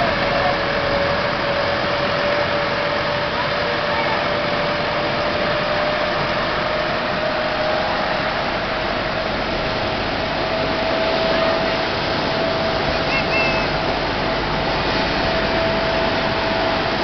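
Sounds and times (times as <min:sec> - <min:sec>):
engine humming: 0:00.0 - 0:17.0
loud rushing noise: 0:00.0 - 0:17.0.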